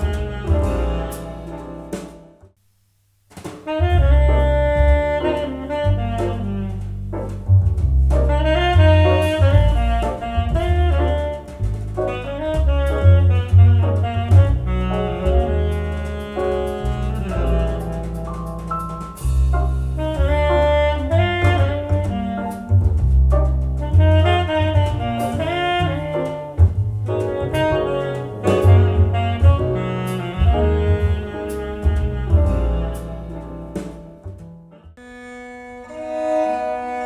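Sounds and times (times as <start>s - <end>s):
saxophone: 0.0s - 2.1s, 3.6s - 7.1s, 8.2s - 37.0s
double bass: 0.0s - 2.6s, 3.6s - 37.0s.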